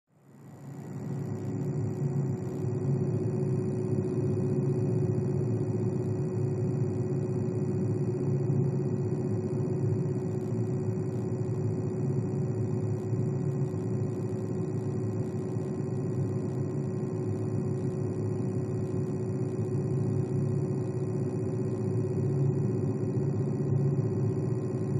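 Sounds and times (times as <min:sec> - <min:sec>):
computer cooling fan running: 0:00.3 - 0:24.9.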